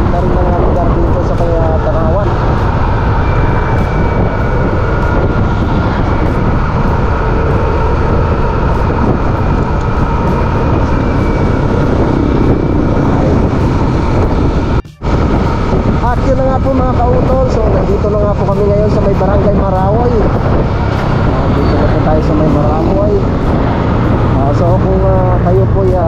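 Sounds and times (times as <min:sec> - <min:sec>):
vehicle travelling on road: 0:00.0 - 0:26.0
wind rumble on microphone: 0:00.0 - 0:26.0.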